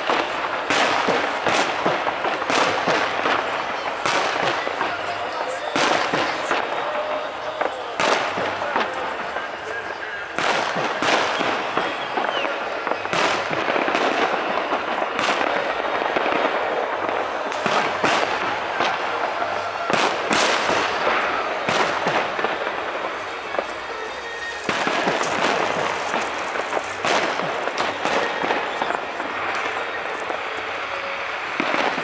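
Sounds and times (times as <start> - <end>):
firework bangs: 0.0 - 32.0
firework crackle: 0.0 - 32.0.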